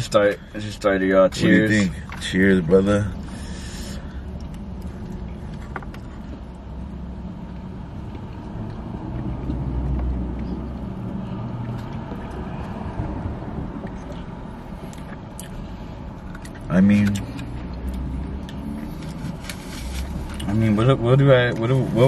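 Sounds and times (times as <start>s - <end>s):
car cabin rumble: 0.0s - 22.0s.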